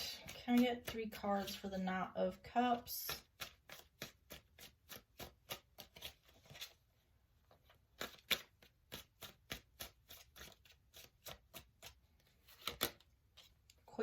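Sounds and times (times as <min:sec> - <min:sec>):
cards being shuffled by hand: 0:00.0 - 0:01.9, 0:02.8 - 0:06.9, 0:07.5 - 0:13.8.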